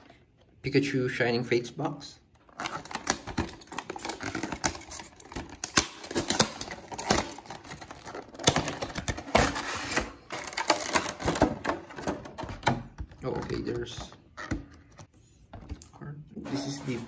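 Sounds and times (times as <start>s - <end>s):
cardboard and plastic rustling: 2.4s - 17.0s.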